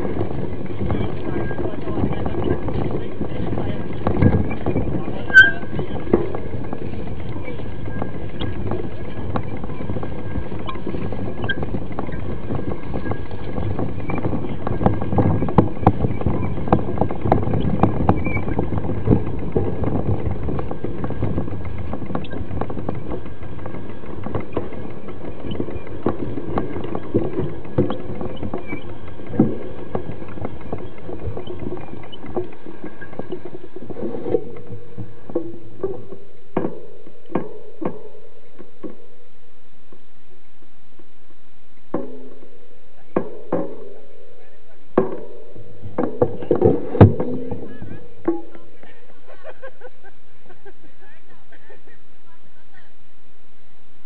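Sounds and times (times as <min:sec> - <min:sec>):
bike rattling knocks: 0:00.0 - 0:39.3, 0:41.8 - 0:49.9
mountain bike rumbling on dirt trail: 0:00.0 - 0:40.1, 0:40.8 - 0:52.9.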